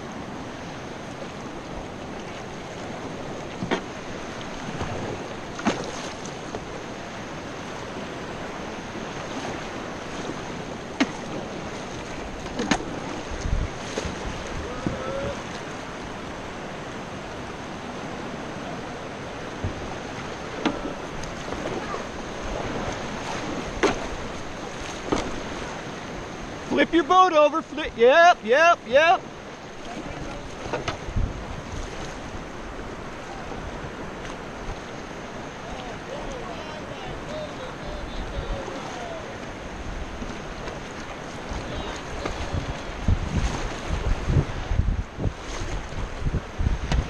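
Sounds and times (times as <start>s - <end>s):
river rapids rushing: 0.0s - 44.7s
paddle splashes: 0.0s - 47.0s.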